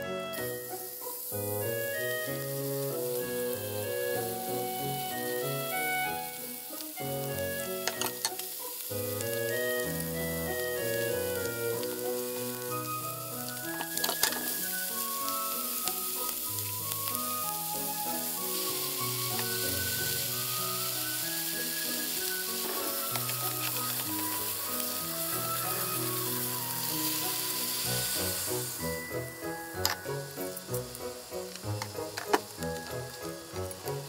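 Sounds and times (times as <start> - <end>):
food sizzling in frying pan: 0.0 - 34.0
light background music: 0.0 - 34.0
spatula turning food: 6.6 - 34.0.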